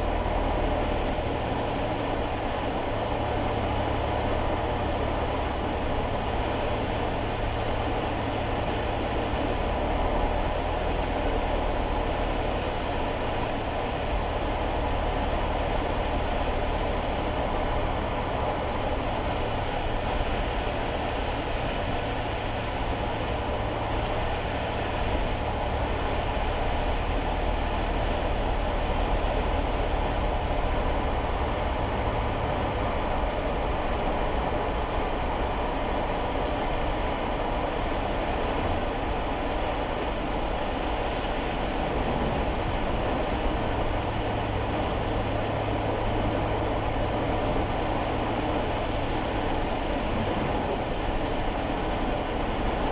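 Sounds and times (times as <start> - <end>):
low engine hum: 0.0 - 52.9
road and tyre noise: 0.0 - 52.9.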